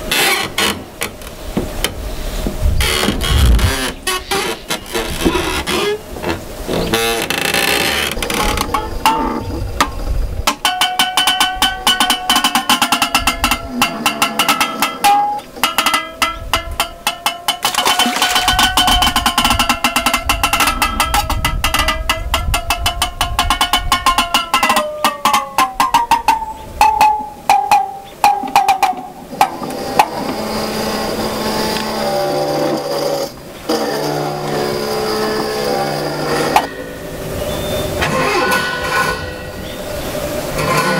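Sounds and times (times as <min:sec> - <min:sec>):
low droning tones: 0:00.0 - 0:40.9
buzzing wavering tone: 0:02.7 - 0:40.9.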